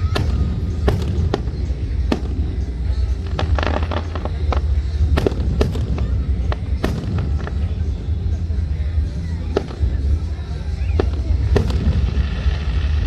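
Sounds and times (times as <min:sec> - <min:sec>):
crackling pops: 0:00.0 - 0:13.0
fireworks bangs: 0:00.0 - 0:13.0
low rumble: 0:00.0 - 0:13.0.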